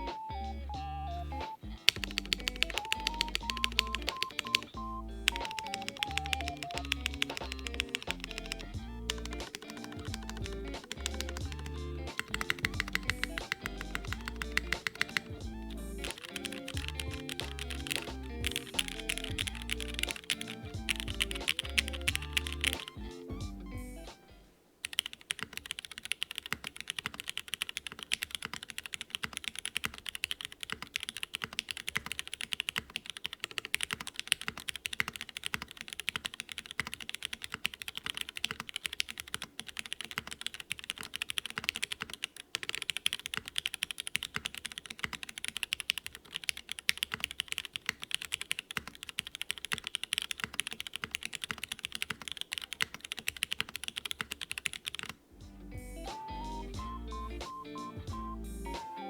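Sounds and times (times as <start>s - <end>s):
fast typing on mechanical keyboard: 1.8s - 23.0s, 24.8s - 55.2s.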